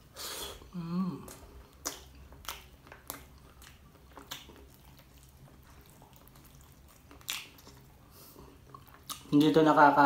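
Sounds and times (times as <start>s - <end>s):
man chewing and mouth smacks: 0.5s - 9.4s.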